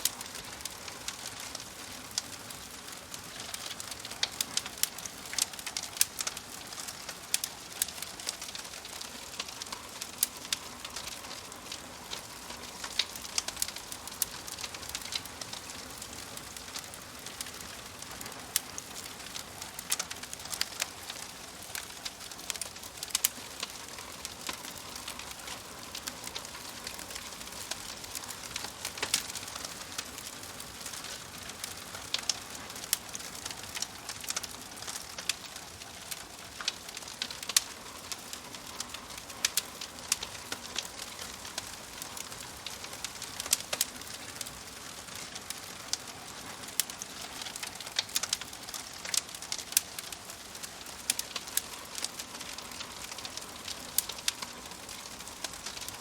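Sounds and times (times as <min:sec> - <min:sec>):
wood stove fire crackling: 0:00.0 - 0:56.0.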